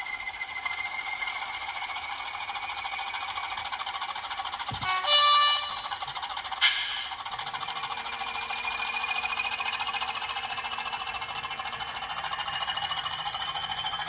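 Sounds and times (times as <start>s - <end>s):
toy train rattling on track: 0.0s - 14.0s.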